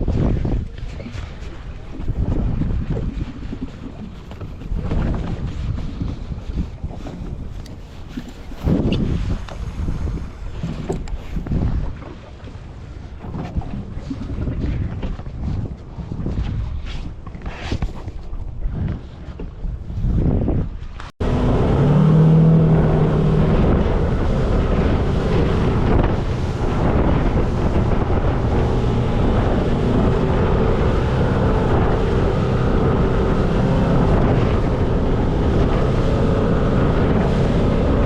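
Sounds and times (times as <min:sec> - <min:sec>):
boat engine running: 0:00.0 - 0:38.0
wind buffeting microphone: 0:00.0 - 0:38.0.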